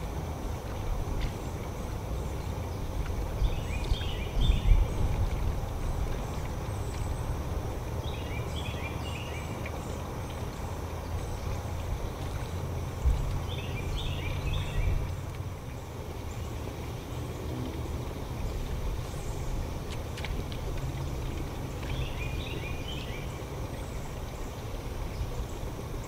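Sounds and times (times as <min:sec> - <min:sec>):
songbird singing: 0:00.0 - 0:26.0
steady low rumble: 0:00.0 - 0:26.0.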